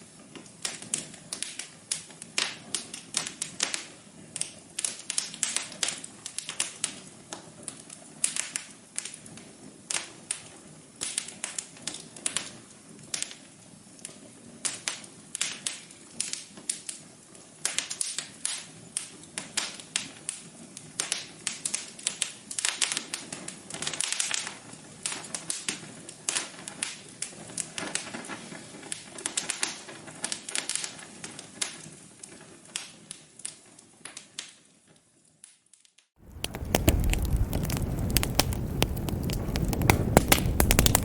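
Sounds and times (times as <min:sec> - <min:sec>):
wood fire crackling: 0:00.0 - 0:35.4, 0:36.2 - 0:41.0.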